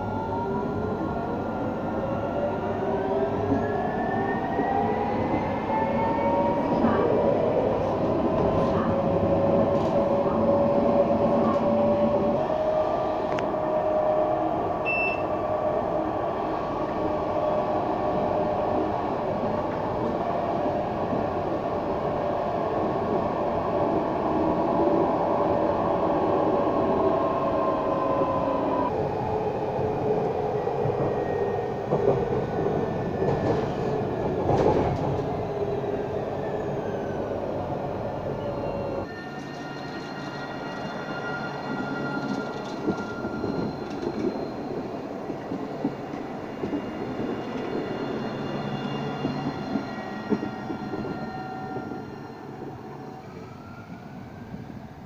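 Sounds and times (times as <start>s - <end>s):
tram wheels rumbling on track: 2.3s - 14.8s, 15.4s - 54.8s.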